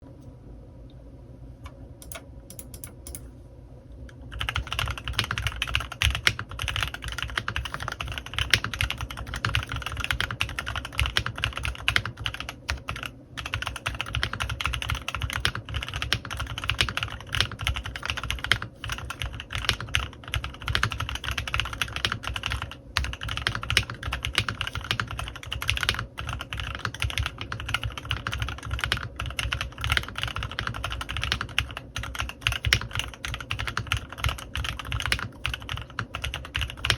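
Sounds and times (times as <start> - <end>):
typing on mechanical keyboard: 4.3 - 36.9.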